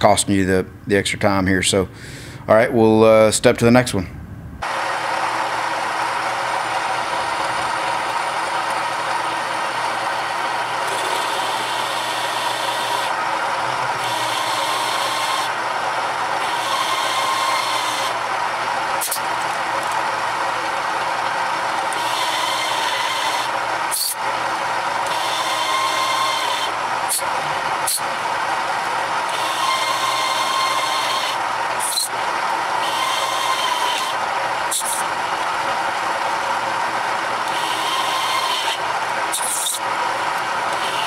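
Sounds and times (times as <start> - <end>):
hole saw grinding steel: 4.6 - 41.0.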